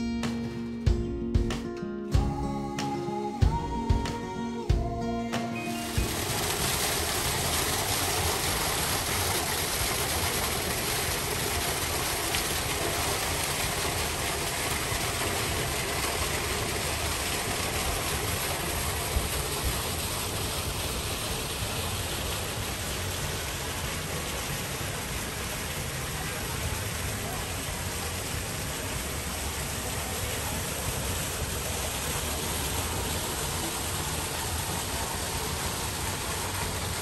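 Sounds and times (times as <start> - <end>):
small waterfall rushing: 5.3 - 37.0.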